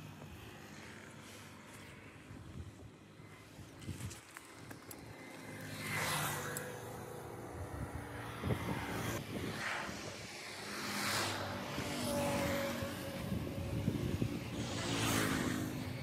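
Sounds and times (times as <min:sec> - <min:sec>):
vehicles passing on highway: 0:00.0 - 0:16.0.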